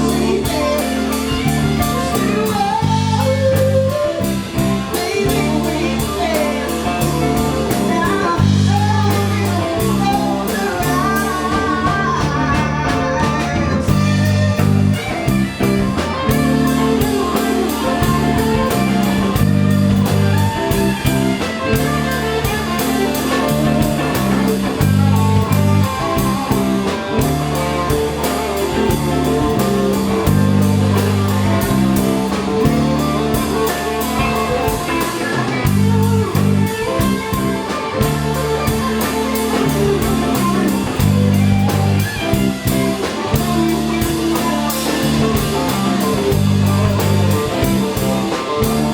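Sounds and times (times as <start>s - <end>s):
bass: 0.0s - 48.9s
drum kit beat: 0.0s - 48.9s
electric guitar: 0.0s - 48.9s.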